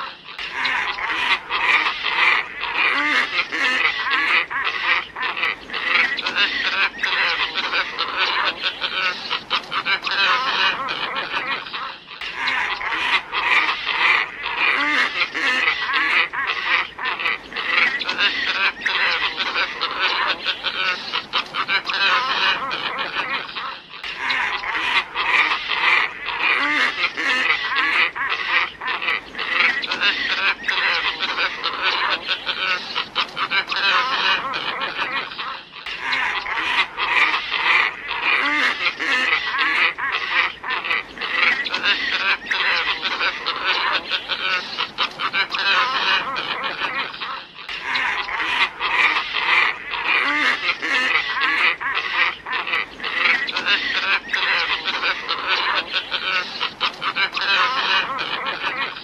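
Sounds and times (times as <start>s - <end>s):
ibis flock calling: 0.0s - 59.0s.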